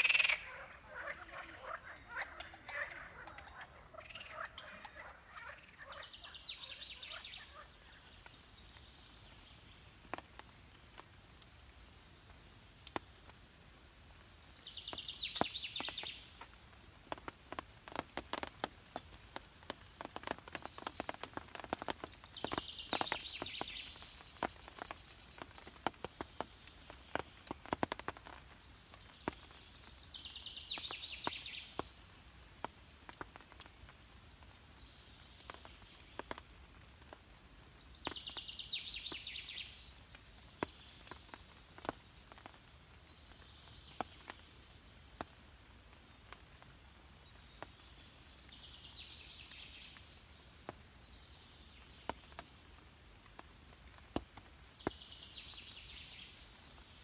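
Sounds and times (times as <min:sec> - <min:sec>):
songbird singing: 0:00.0 - 0:11.1, 0:12.7 - 0:57.0.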